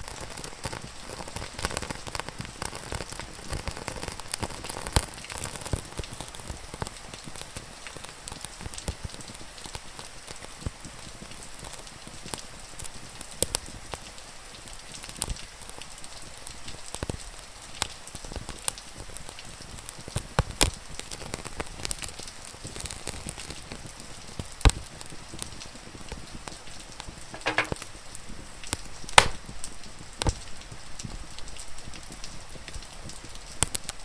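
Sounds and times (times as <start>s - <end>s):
rain hiss: 0.0s - 34.0s
wood fire crackling and popping: 0.0s - 34.0s.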